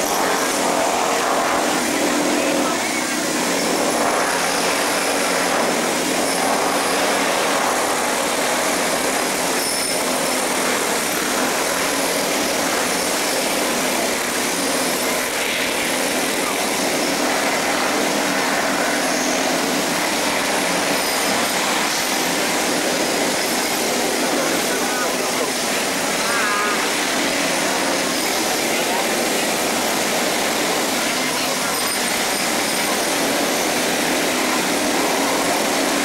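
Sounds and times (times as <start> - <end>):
murmur of many people: 0.0 - 36.0.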